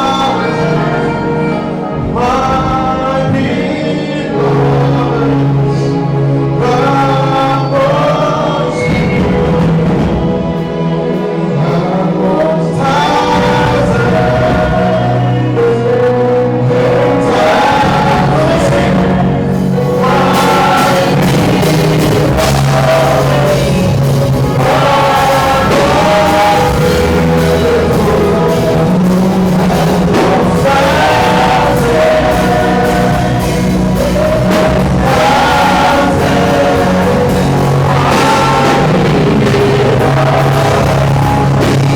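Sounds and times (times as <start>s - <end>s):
gospel choir singing: 0.0s - 41.9s
instrumental backing: 0.0s - 41.9s.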